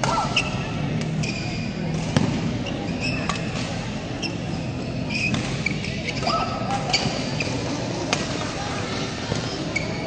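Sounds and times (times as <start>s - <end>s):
sports hall hubbub: 0.0s - 10.0s
shoes squeaking on court: 0.3s - 8.1s, 9.2s - 10.0s.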